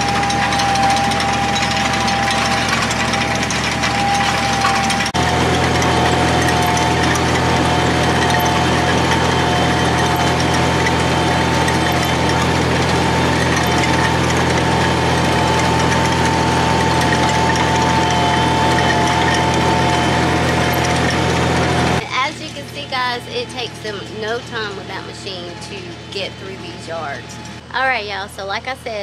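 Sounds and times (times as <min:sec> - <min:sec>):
machine engine running steadily: 0:00.0 - 0:29.0
steady whine: 0:00.0 - 0:29.0.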